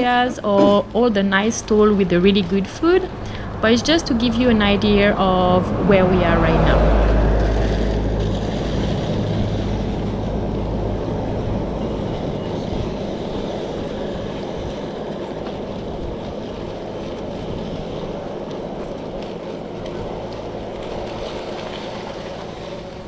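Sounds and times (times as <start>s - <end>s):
low motor hum: 0.0s - 23.0s
wind and road rush: 0.0s - 23.0s.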